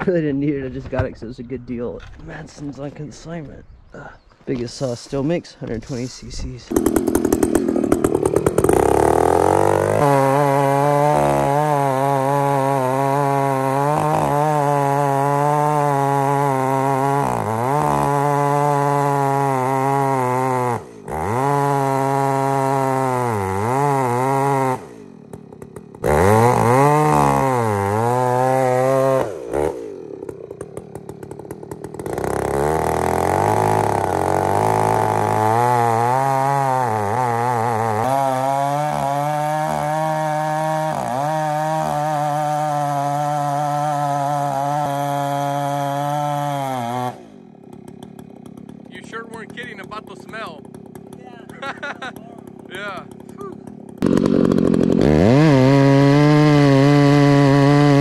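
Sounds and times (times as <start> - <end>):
chainsaw cutting wood: 5.8 - 58.0.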